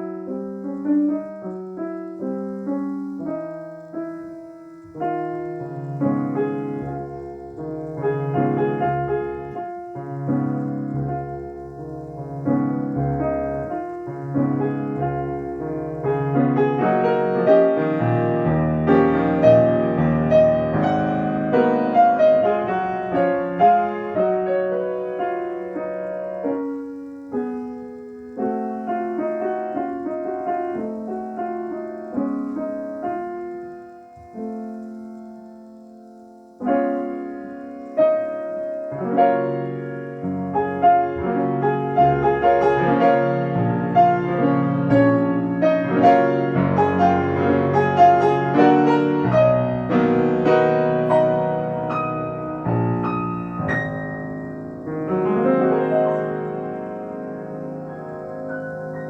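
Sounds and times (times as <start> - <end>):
solo acoustic piano: 0.0 - 59.0.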